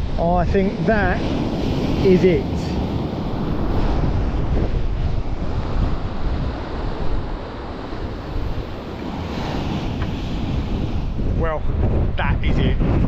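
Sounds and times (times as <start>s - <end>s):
surf breaking on shore: 0.0s - 13.0s
wind buffeting microphone: 0.0s - 13.0s.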